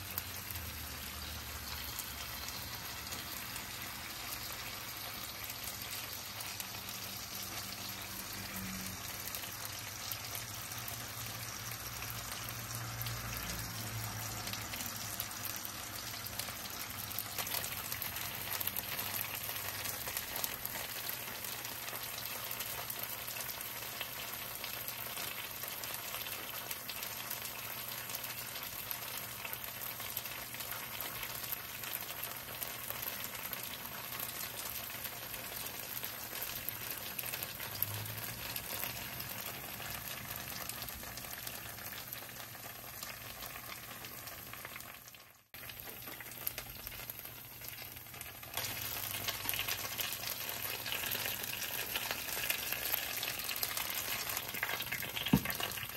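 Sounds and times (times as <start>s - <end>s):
dumplings sizzling in a pan: 0.0s - 55.9s.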